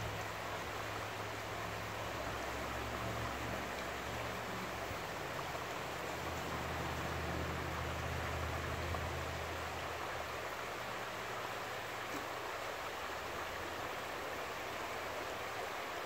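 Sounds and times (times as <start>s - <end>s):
river current rushing: 0.0s - 16.0s.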